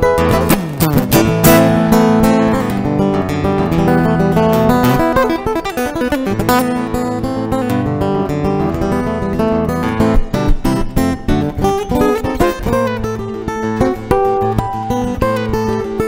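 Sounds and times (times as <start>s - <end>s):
guitar chords: 0.0s - 16.0s.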